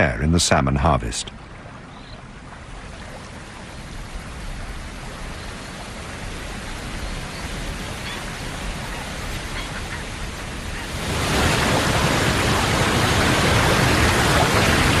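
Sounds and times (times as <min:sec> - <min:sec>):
river rushing over falls: 0:01.4 - 0:15.0.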